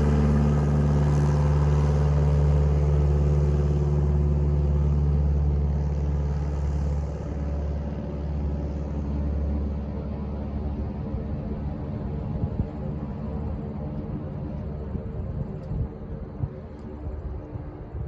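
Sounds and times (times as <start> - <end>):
light aircraft engine and propeller: 0.0 - 18.0.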